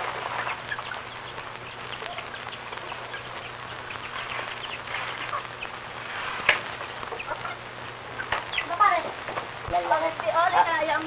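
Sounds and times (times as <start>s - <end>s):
chickens clucking: 0.0s - 9.5s
film soundtrack hiss and hum: 0.0s - 11.0s.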